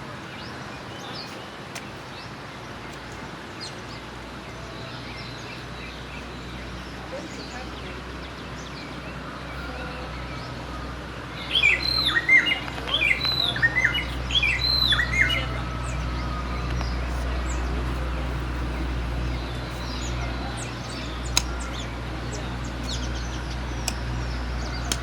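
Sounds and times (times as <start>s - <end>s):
bird chirping: 0.2s - 25.0s.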